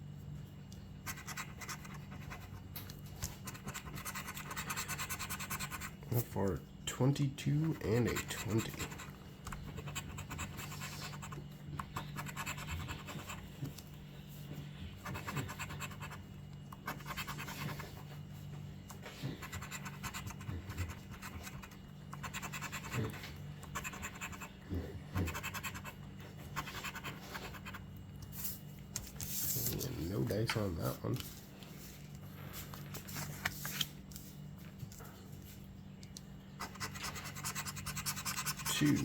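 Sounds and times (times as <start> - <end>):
scratching lottery ticket coating: 1.0 - 14.0, 14.9 - 18.2, 18.9 - 32.0, 36.5 - 39.0.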